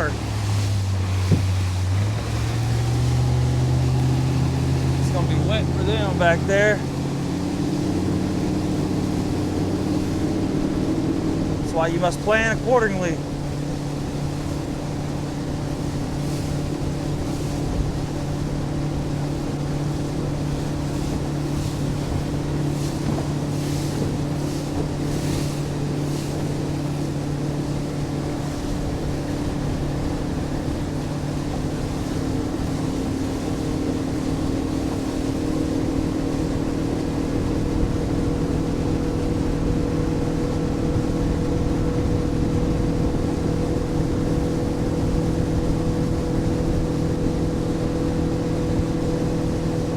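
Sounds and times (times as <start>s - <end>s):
motorboat engine running: 0.0s - 49.9s
water rushing: 0.0s - 49.9s.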